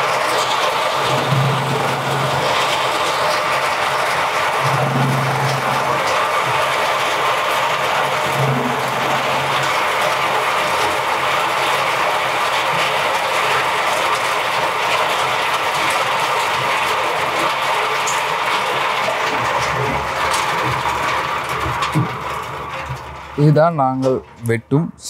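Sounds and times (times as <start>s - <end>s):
husk chips clattering onto pile: 0.0s - 23.5s
husk chipping machine running: 0.0s - 25.0s.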